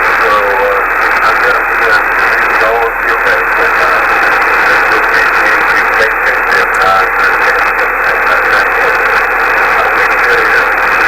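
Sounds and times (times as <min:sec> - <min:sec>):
radio receiver hiss and static: 0:00.0 - 0:11.0.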